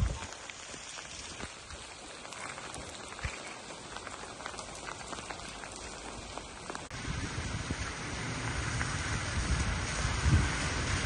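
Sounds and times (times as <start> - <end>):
rain patter: 0.0 - 11.0.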